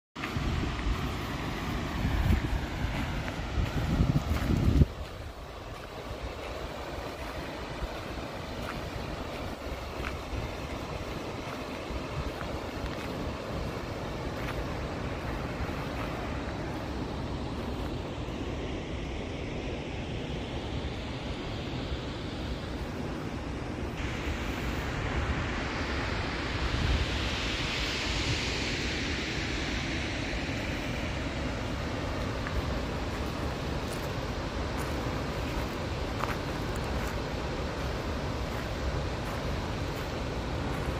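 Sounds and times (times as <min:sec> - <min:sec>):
waterfall roaring: 0:00.2 - 0:40.9
wind on microphone: 0:00.2 - 0:40.9.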